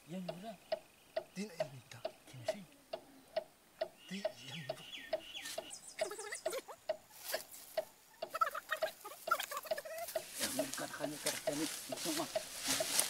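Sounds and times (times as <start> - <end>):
steady ticking: 0.0 - 7.1, 7.7 - 13.0
birds chirping: 0.0 - 13.0.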